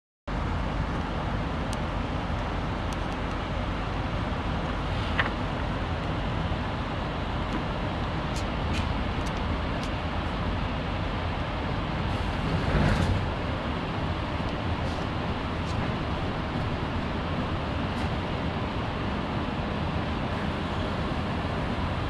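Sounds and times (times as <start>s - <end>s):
train rumbling: 0.3s - 22.0s.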